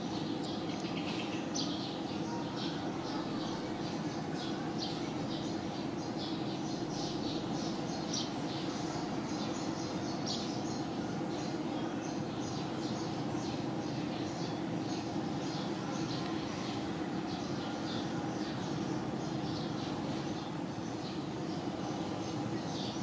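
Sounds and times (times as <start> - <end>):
birds chirping: 0.0 - 23.0
steady background noise: 0.0 - 23.0.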